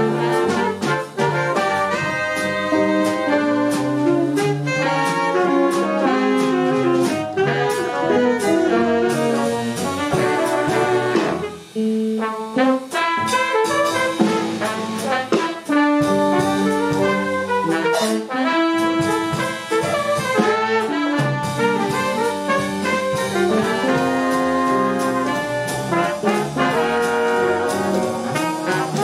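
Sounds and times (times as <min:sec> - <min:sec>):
double bass: 0:00.0 - 0:29.0
drums: 0:00.0 - 0:29.0
horns playing in harmony: 0:00.0 - 0:29.0
piano: 0:00.0 - 0:29.0.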